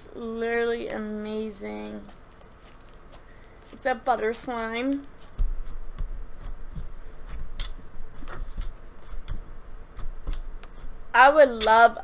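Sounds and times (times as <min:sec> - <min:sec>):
soft handling noise: 0:00.8 - 0:11.0.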